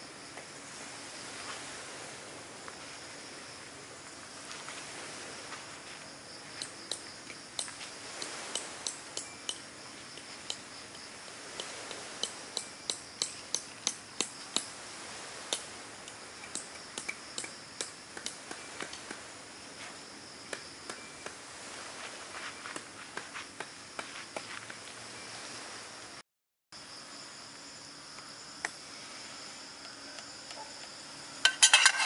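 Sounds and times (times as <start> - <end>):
insects droning: 0.0 - 26.2, 26.8 - 32.0.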